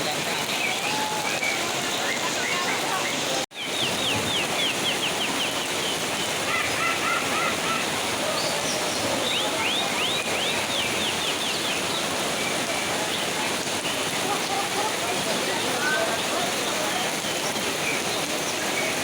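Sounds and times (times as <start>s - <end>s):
heavy rain falling: 0.0s - 19.0s
songbirds chirping: 0.1s - 19.0s.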